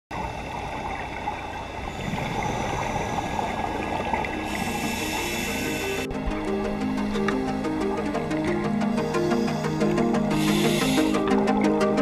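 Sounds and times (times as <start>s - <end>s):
underwater rushing water noise: 0.1s - 12.0s.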